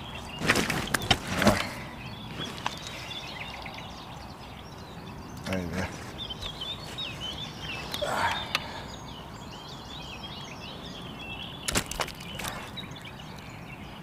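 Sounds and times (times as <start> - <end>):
rustle: 0.0 - 13.7
songbirds chirping: 0.0 - 14.0.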